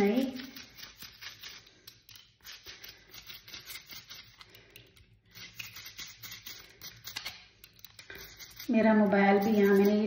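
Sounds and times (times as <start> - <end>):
toothbrush scrubbing metal bangle: 0.0 - 10.0.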